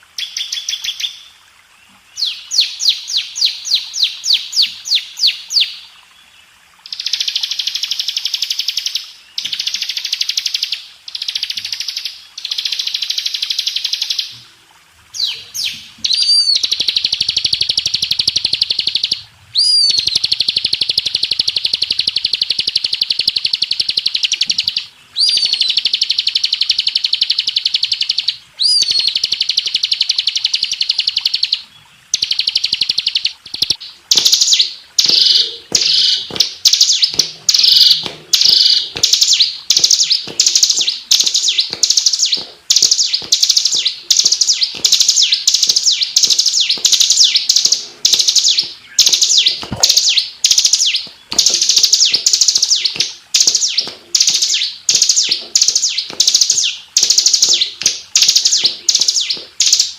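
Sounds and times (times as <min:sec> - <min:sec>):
bird singing buzzy trills: 0:00.0 - 0:14.4, 0:15.1 - 0:59.9.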